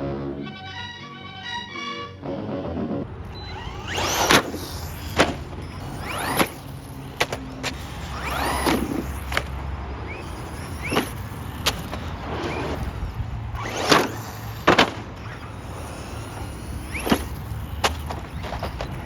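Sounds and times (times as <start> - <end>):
electric motor whining: 3.0 - 19.0.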